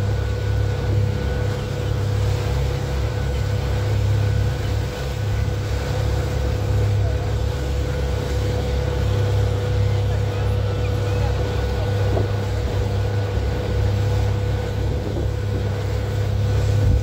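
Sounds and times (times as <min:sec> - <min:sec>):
motorboat engine drone: 0:00.0 - 0:17.0
rushing water: 0:00.0 - 0:17.0
wind: 0:00.0 - 0:17.0.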